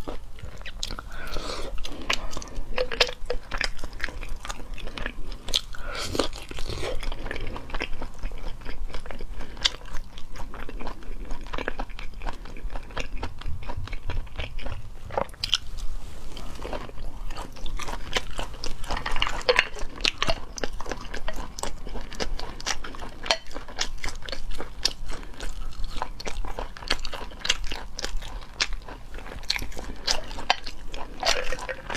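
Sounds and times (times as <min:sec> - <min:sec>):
wet crunchy chewing: 0:00.0 - 0:31.9.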